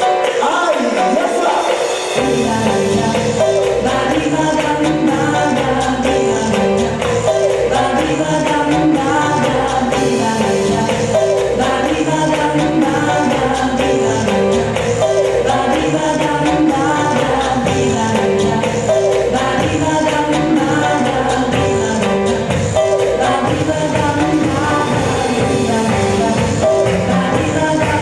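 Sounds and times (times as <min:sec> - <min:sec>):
cha-cha dance music: 0:00.0 - 0:28.0
person singing: 0:00.0 - 0:28.0.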